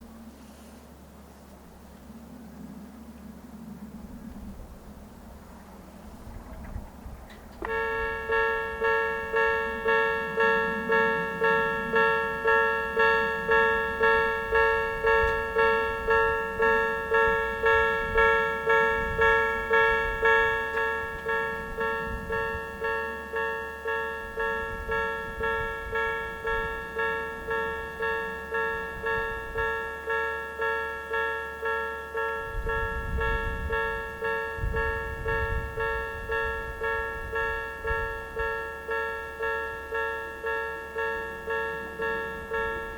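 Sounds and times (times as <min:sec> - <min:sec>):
level crossing warning bell: 0:07.6 - 0:42.9.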